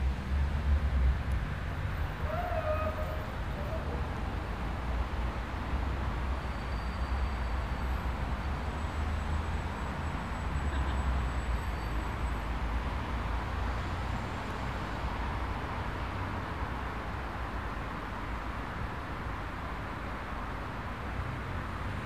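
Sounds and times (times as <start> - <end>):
low traffic rumble: 0.0 - 22.0
passing cars: 0.0 - 22.0.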